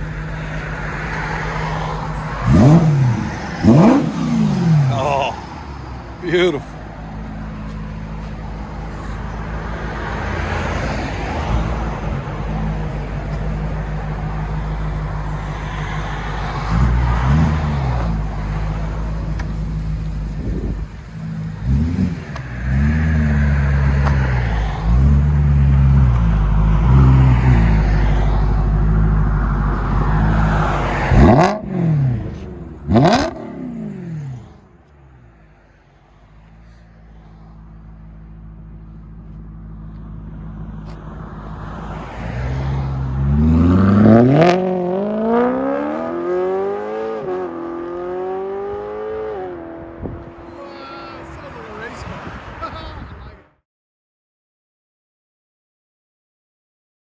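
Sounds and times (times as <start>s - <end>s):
car engine revving: 0.0s - 35.3s, 37.1s - 52.0s.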